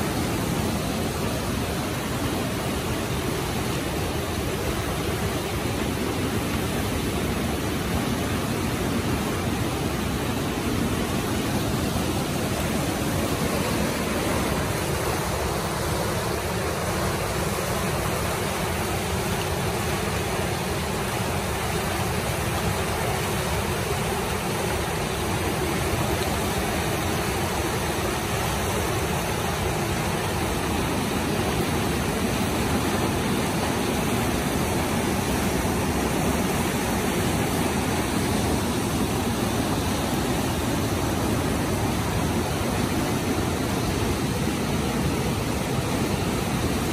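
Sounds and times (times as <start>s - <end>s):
water rushing over rocks: 0.0s - 46.9s.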